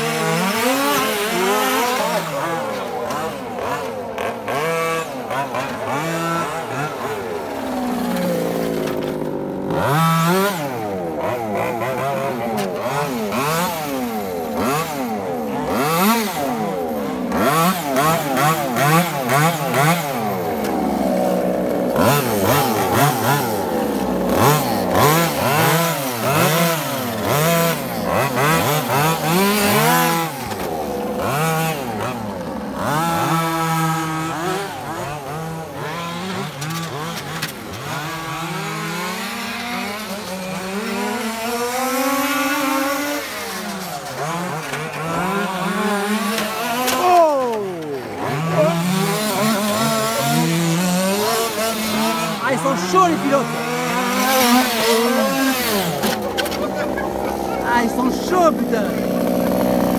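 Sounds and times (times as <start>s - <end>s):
rc car engines revving: 0.0s - 59.9s.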